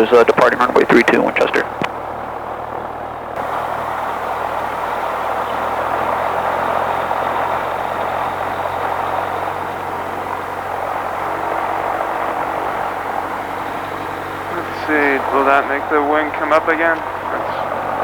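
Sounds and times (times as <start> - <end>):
light airplane engine running: 0.0 - 18.0.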